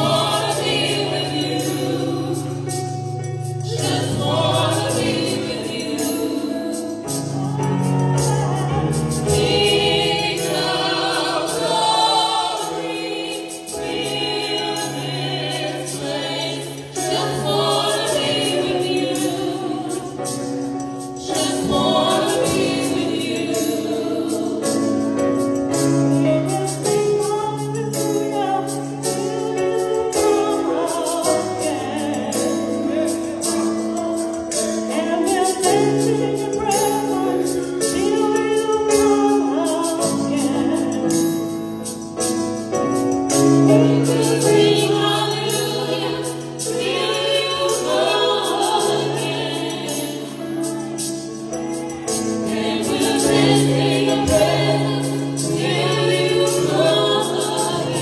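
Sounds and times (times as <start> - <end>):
women singing gospel song: 0.0 - 58.0.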